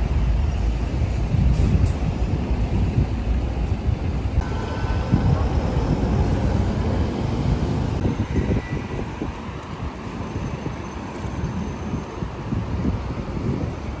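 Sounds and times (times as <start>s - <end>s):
street traffic: 0.0s - 14.0s
wind buffeting microphone: 0.0s - 14.0s.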